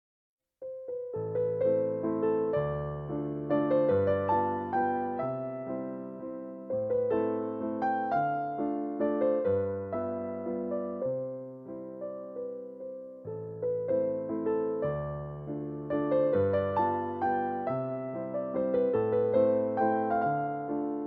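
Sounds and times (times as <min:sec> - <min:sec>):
gentle electric piano melody: 0:00.6 - 0:21.0.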